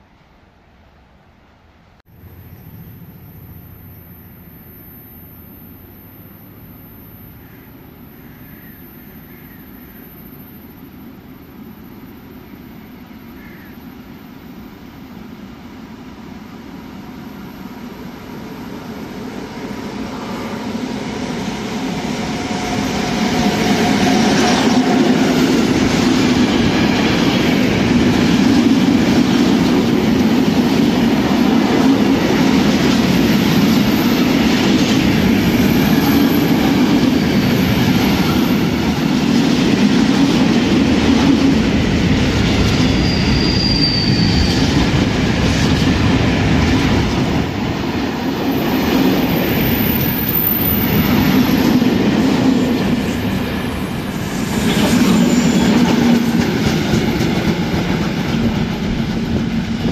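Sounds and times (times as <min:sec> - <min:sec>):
train wheels rumbling on rail: 0:05.6 - 0:59.9.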